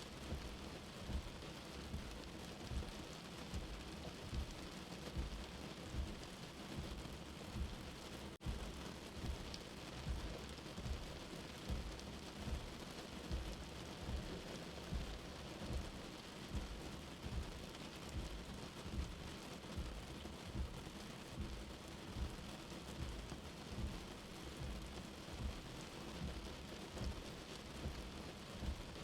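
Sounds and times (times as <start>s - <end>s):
steady rain heard from inside: 0.0s - 29.0s
soft low heartbeat thumping: 0.2s - 29.0s.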